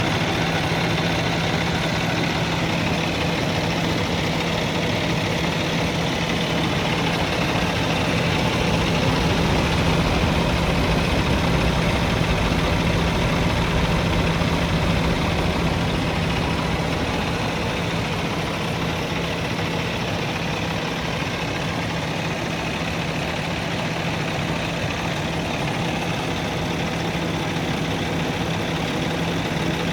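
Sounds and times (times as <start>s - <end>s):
diesel truck idling: 0.0s - 29.9s.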